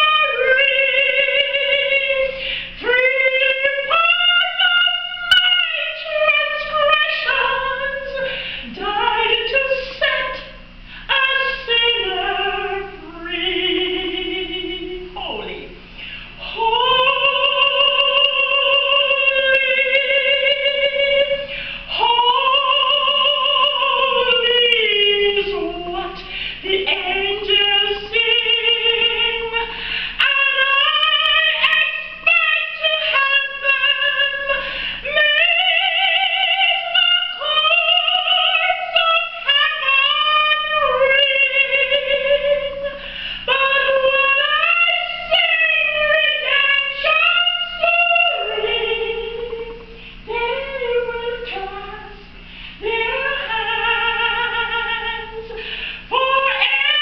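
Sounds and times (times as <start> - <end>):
woman singing soprano: 0.0 - 15.8, 16.4 - 57.0.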